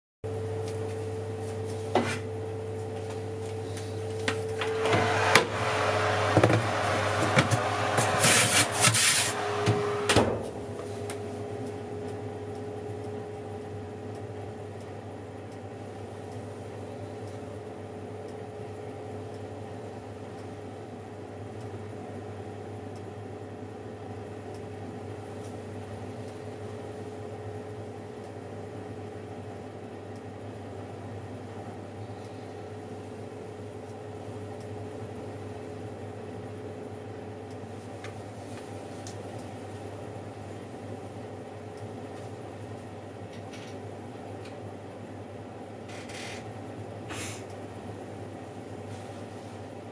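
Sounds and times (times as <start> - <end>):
oven humming: 0.3 - 49.9.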